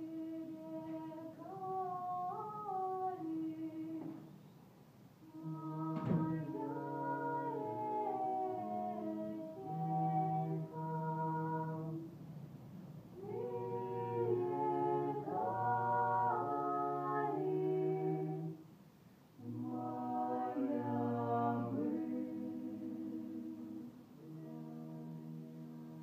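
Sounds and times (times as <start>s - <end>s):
a cappella group singing: 0.0s - 4.3s, 5.3s - 12.1s, 13.2s - 18.7s, 19.4s - 26.0s.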